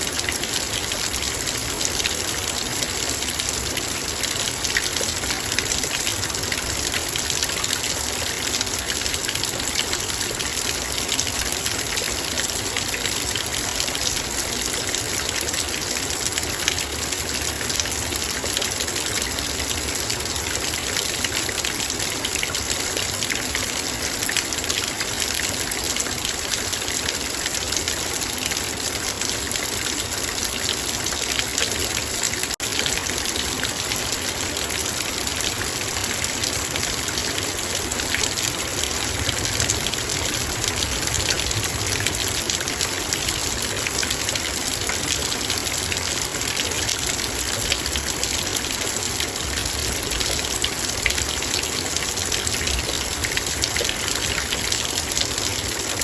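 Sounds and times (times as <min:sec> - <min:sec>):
heavy rain on a metal bowl: 0:00.0 - 0:56.0.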